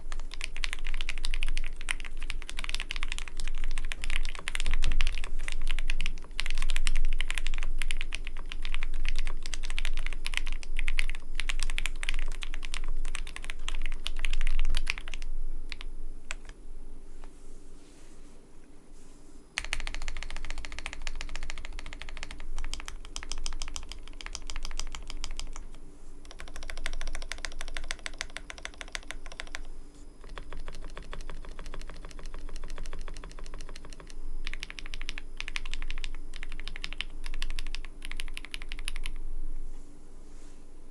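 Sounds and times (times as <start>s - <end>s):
fast mechanical keyboard typing: 0.0s - 16.6s, 19.6s - 39.2s.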